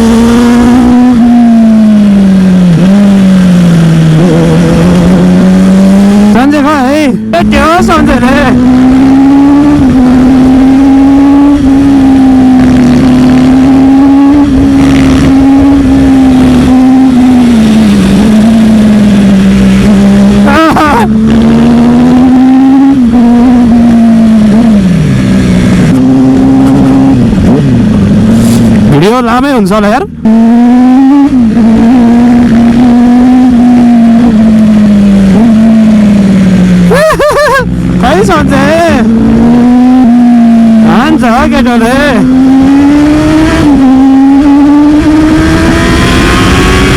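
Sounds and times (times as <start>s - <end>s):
motorcycle engine at high revs: 0.0s - 46.9s.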